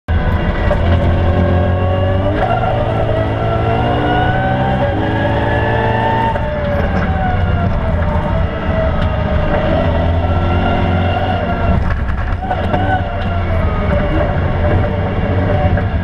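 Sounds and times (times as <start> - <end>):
car engine accelerating: 0.1 - 16.0.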